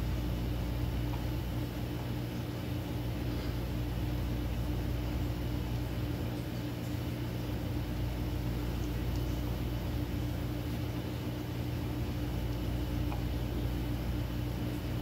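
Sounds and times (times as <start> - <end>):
turntable motor humming: 0.0 - 15.0.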